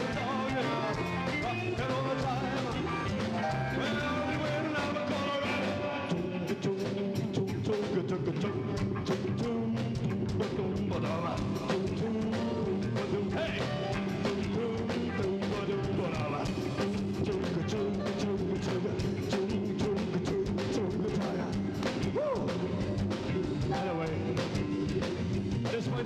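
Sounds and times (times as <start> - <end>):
person singing: 0.0 - 26.0
rock band playing: 0.0 - 26.0.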